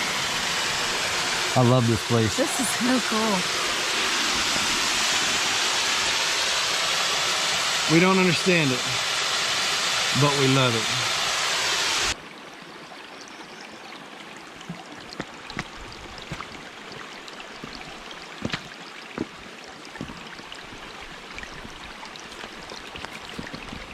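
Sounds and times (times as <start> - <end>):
stream babbling over rocks: 0.0 - 11.1, 12.1 - 23.9
rush of falling water: 0.0 - 12.3, 14.1 - 23.9
water drips and splashes: 0.0 - 23.9.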